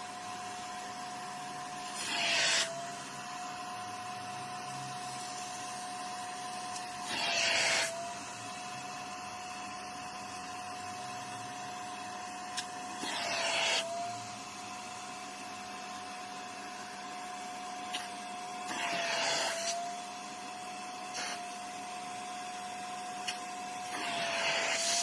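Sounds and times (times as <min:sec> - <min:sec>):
vacuum motor whine: 0:00.0 - 0:25.0.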